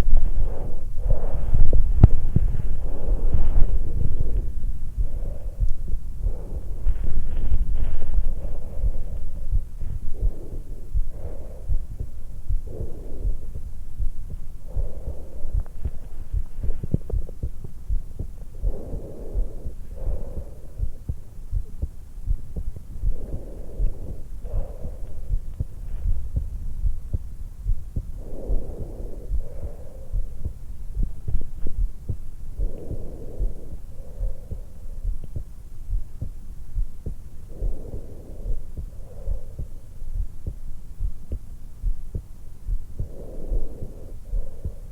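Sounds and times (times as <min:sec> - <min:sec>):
breathing in and out: 0:00.0 - 0:44.9
low heartbeats: 0:00.0 - 0:44.9.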